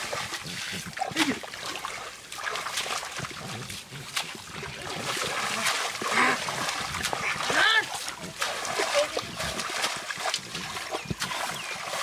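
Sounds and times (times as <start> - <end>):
hands splashing in muddy water: 0.0 - 12.0
water dripping: 0.0 - 12.0.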